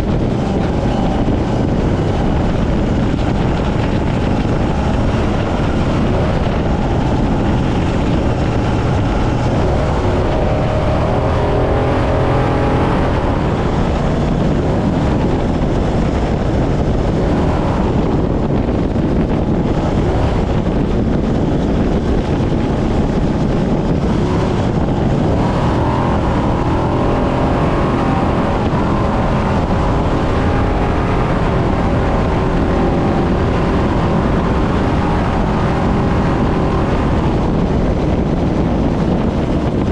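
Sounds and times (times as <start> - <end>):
truck engine running hard: 0.0 - 39.9
wind rush: 0.0 - 39.9.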